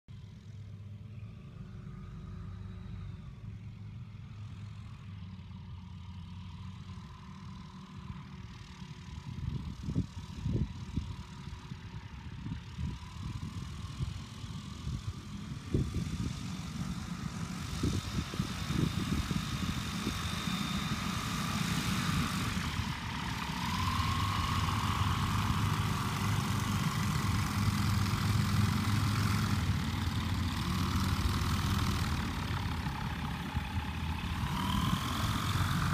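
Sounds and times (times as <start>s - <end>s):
propeller plane engine idling: 0.1s - 35.9s.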